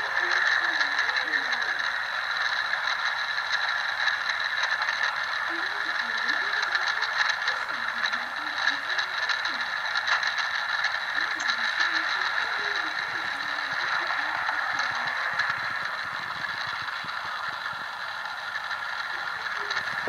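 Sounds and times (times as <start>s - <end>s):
light irregular track clicks: 0.0s - 20.0s
model train whirring hum: 0.0s - 20.0s.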